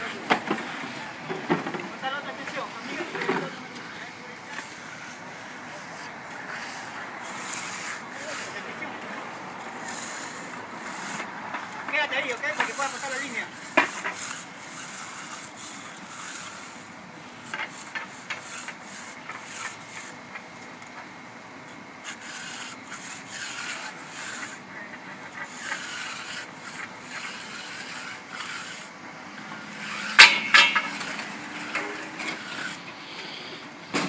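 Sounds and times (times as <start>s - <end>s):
tools scraping wet concrete: 0.0s - 21.0s, 21.8s - 34.0s.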